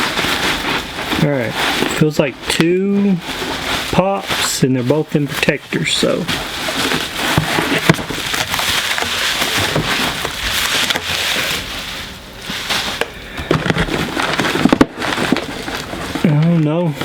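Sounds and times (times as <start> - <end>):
packing material rustling and crinkling: 0.0 - 17.0.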